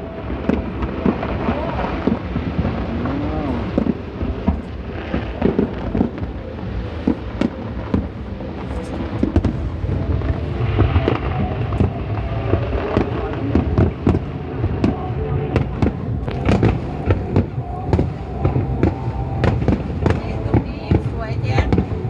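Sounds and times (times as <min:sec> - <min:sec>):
faint crowd voices: 0:00.0 - 0:22.0
fireworks bangs and crackles: 0:00.0 - 0:22.0
low rumble: 0:00.0 - 0:22.0.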